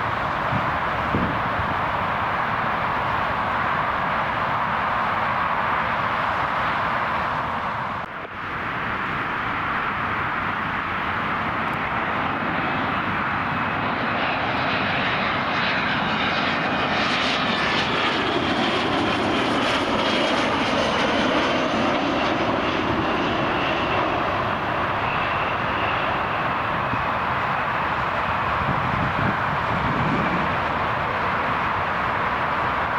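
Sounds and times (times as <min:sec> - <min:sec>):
jet airliner flying past: 0:00.0 - 0:32.9.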